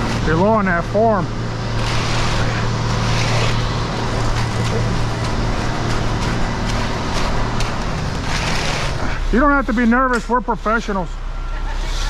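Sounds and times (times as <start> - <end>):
rakes scraping wet concrete: 0.0 - 11.1
diesel truck engine droning: 0.0 - 11.8.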